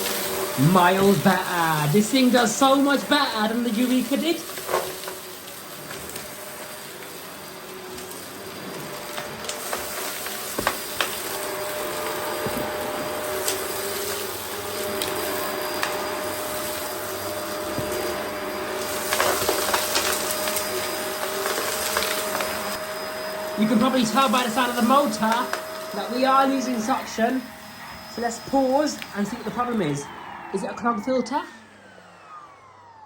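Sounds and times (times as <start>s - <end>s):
vacuum cleaner running: 0.0s - 33.0s
vacuum motor whine: 0.0s - 33.0s.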